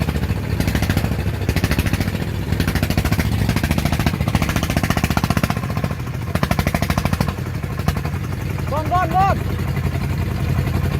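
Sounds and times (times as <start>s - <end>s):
diesel engine chugging: 0.0s - 10.9s.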